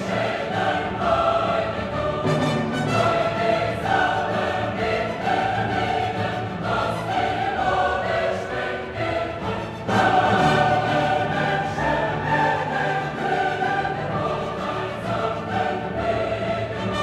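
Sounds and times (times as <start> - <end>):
choir singing sustained notes: 0.0 - 17.0
orchestral accompaniment: 0.0 - 17.0.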